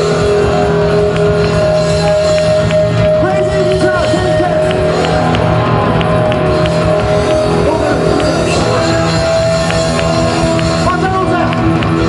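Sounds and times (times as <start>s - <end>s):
drums: 0.0s - 12.0s
electric guitar: 0.0s - 12.0s.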